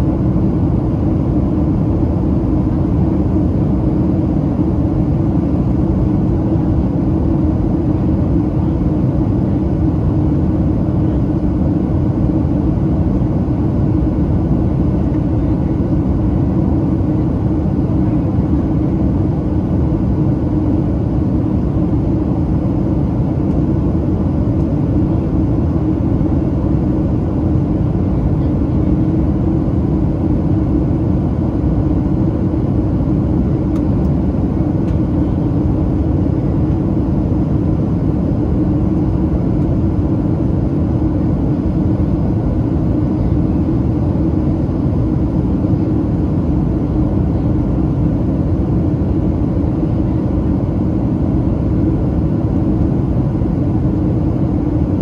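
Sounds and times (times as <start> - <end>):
airliner cabin rumble: 0.0 - 55.0
steady hum: 0.0 - 55.0.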